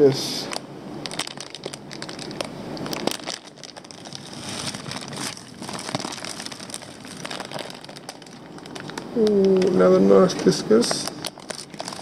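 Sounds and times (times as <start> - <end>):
plastic bags crinkling: 1.0 - 9.9, 10.8 - 12.0.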